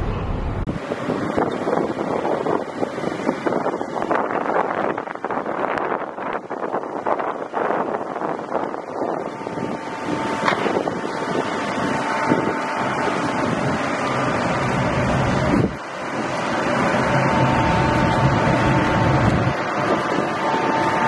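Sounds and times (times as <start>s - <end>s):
boat engine running: 0.0s - 21.0s
thin steady whine: 0.0s - 21.0s
water noise: 0.0s - 21.0s
wind on the microphone: 0.0s - 21.0s.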